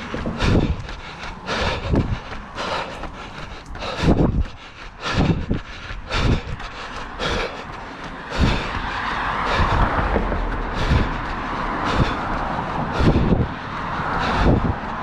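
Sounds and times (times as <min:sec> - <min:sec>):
footfalls on dirt trail: 0:00.0 - 0:12.4
steady rushing noise: 0:00.0 - 0:15.0.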